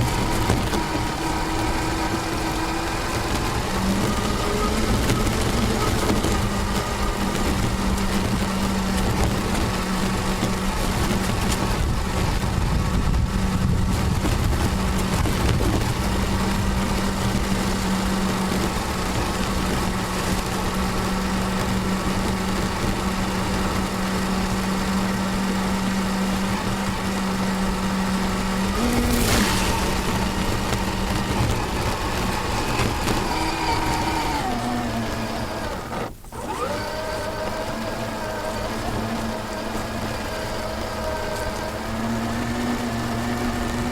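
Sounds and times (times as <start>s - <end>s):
electric motor whine: 0.0s - 43.9s.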